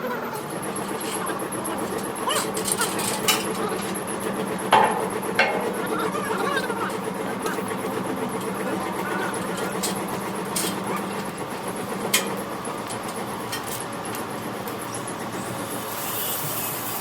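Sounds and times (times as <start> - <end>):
machine hum: 0.0 - 16.5.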